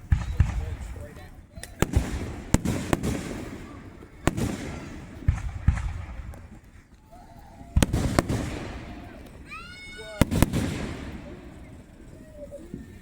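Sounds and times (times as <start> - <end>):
fireworks booming: 0.0 - 13.0.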